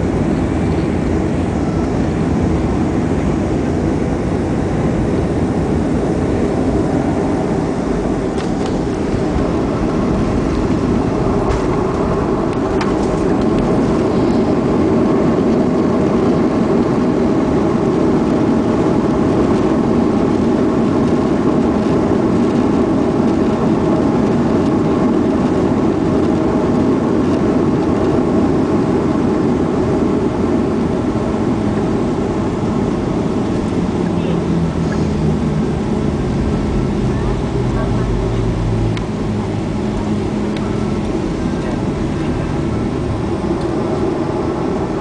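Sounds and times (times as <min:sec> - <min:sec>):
airplane cabin roar: 0:00.0 - 0:45.0.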